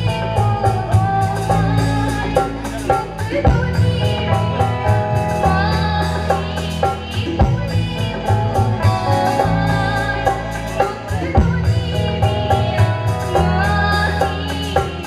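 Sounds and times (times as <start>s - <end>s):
instrumental music with beat: 0.0s - 15.0s
woman singing into microphone: 0.0s - 15.0s.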